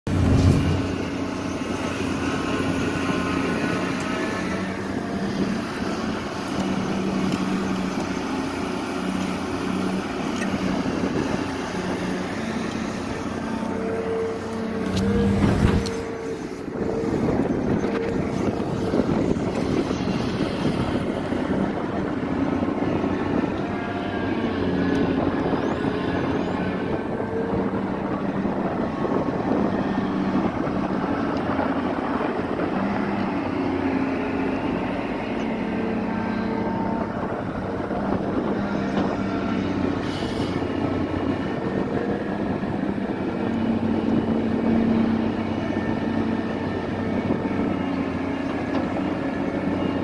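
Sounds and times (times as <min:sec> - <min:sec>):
excavator diesel engine working: 0:00.1 - 0:50.0.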